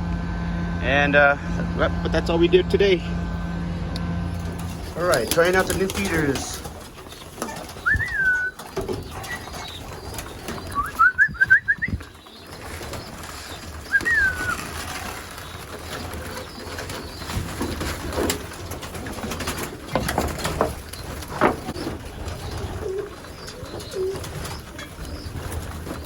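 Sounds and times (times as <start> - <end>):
pigeons peeping: 3.3 - 26.0
pigeons cooing: 4.3 - 26.0.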